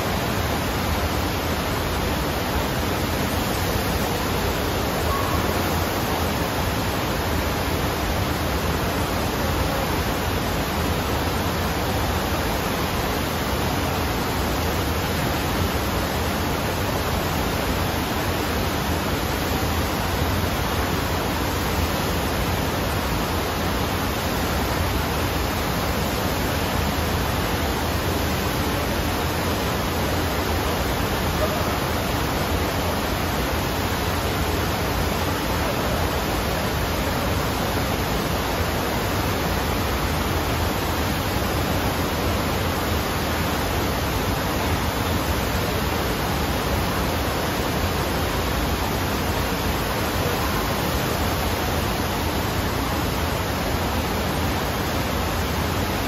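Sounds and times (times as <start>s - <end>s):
rushing water roar: 0.0s - 56.0s.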